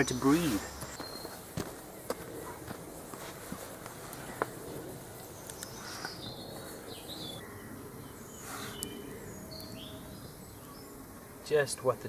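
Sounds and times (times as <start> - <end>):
campfire crackling: 0.0 - 12.0
woodland birds chirping: 0.0 - 12.0.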